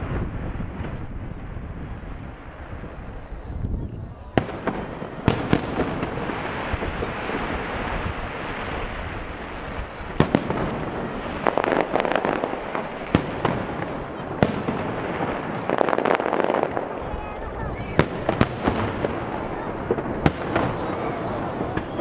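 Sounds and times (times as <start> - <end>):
continuous fireworks din: 0.0 - 22.0.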